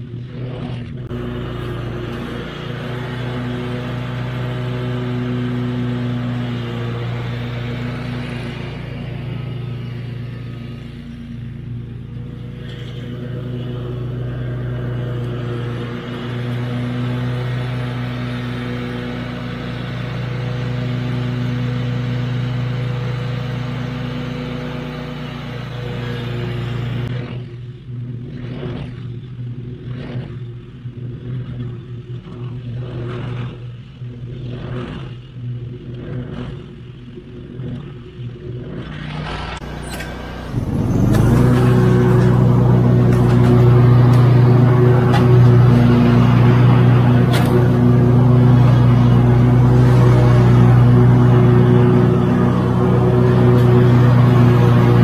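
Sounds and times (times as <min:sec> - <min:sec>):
riding mower engine running: 0:00.0 - 0:28.4, 0:30.7 - 0:55.0.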